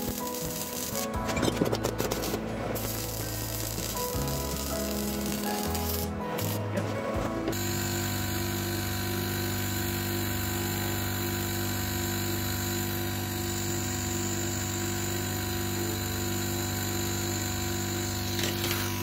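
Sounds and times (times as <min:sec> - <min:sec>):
machine hum with low buzz: 0:00.0 - 0:19.0.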